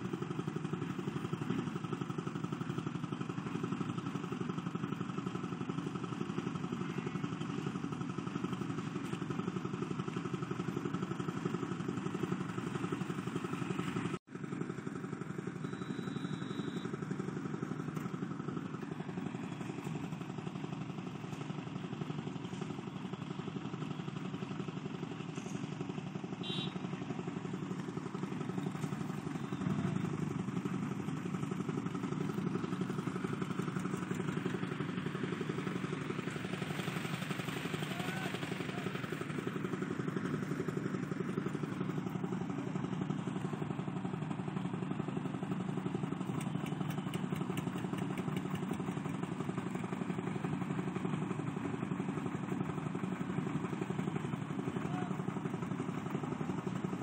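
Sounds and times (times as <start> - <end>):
construction machinery engine hum: 0.0 - 57.0.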